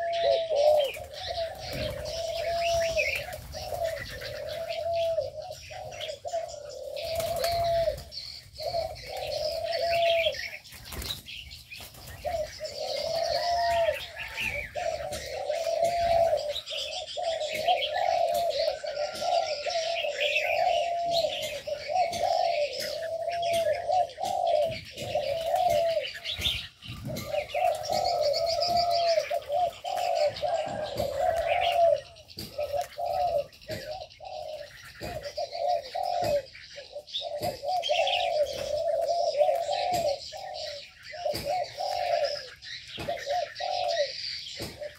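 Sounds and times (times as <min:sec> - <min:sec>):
doves cooing: 0:00.0 - 0:44.9
small birds chirping: 0:00.0 - 0:44.9.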